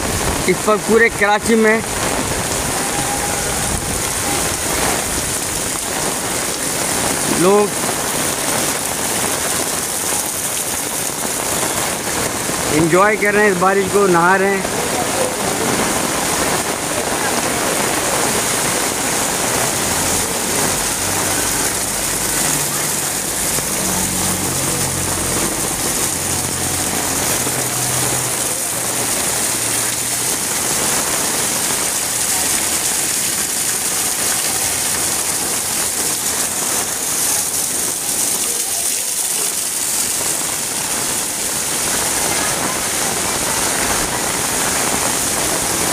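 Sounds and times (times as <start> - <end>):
heavy rain on pavement: 0.0 - 45.9.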